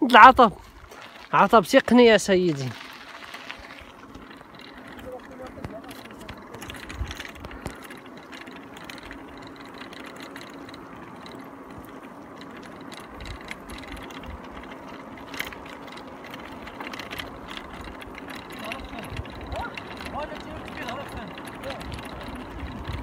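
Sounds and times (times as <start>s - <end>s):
bicycle tyre and wind noise: 0.0s - 23.0s
freewheel hub ticking: 0.6s - 23.0s
sharp clicks from bicycle: 0.6s - 23.0s.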